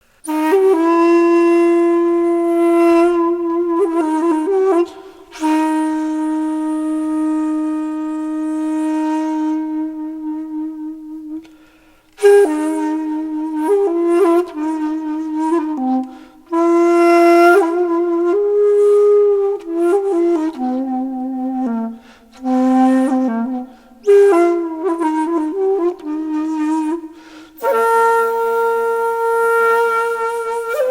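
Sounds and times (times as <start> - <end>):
flute-like wind instrument melody: 0.2 - 30.9.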